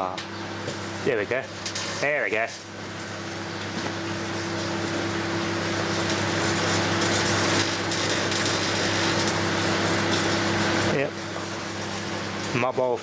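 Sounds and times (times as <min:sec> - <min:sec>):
microwave oven humming: 0:00.0 - 0:13.0
hiss and crackle of arcing: 0:00.1 - 0:13.0.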